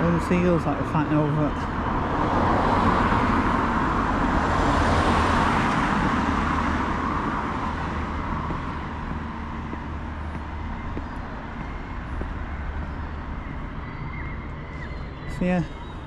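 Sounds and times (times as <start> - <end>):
background traffic: 0.0 - 16.0.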